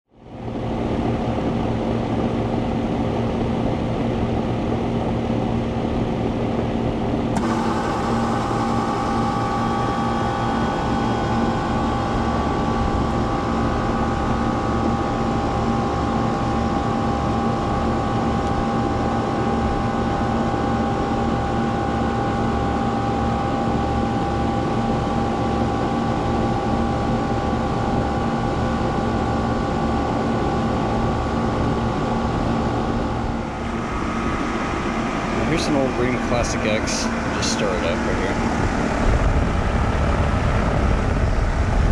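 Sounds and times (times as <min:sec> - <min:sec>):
air conditioner unit hum: 0:00.1 - 0:41.9
air conditioner whine: 0:00.1 - 0:41.9.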